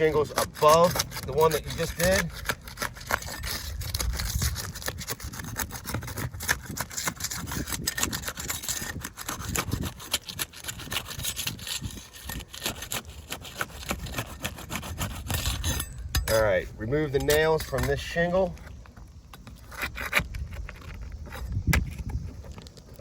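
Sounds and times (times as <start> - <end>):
shingle seals crackling: 0.0 - 23.0
tool scraping roof shingles: 0.0 - 23.0.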